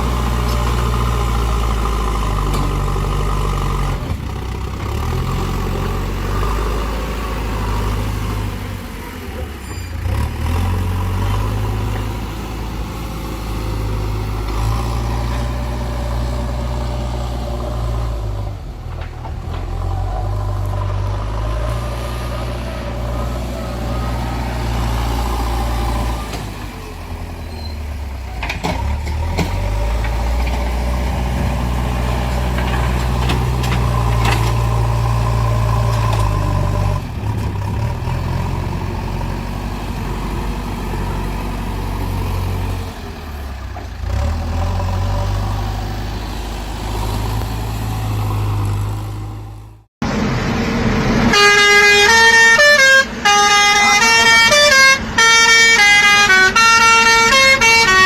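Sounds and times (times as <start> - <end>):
truck engine droning: 0.0 - 58.0.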